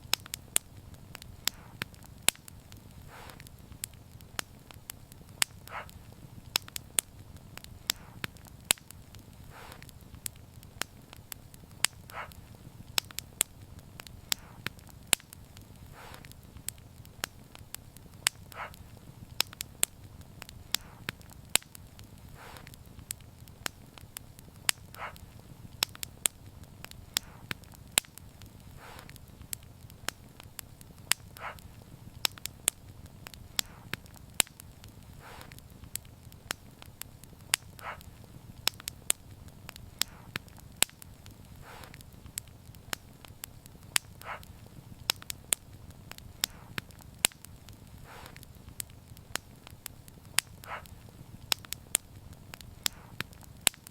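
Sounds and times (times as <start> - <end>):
low rumble of flames: 0.0 - 53.9
wood fire crackling: 0.0 - 53.9
soft hissing puff: 0.1 - 29.4, 30.2 - 45.0, 46.2 - 47.0, 47.8 - 48.6, 52.8 - 53.4.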